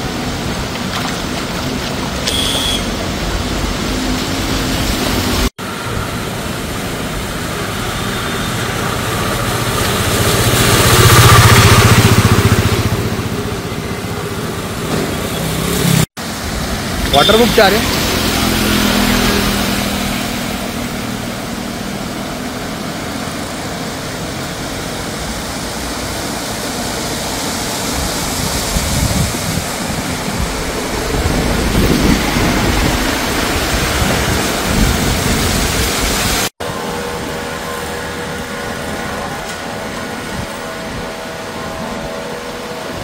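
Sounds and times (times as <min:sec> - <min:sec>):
heavy rain: 0:02.9 - 0:43.0.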